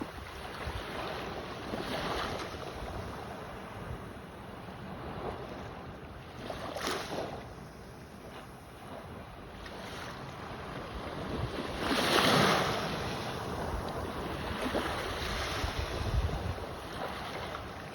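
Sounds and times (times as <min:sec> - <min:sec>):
sea waves washing in: 0:00.0 - 0:17.9
wind rumbling on microphone: 0:00.0 - 0:17.9.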